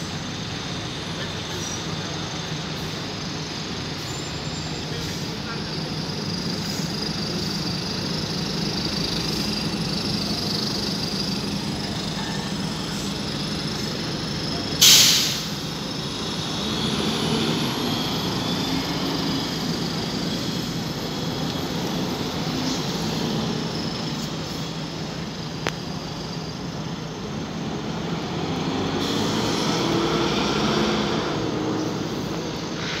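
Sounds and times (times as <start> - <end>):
bus diesel engines running: 0.0 - 33.0
air brakes hissing: 1.5 - 27.0, 28.9 - 30.2, 31.8 - 33.0.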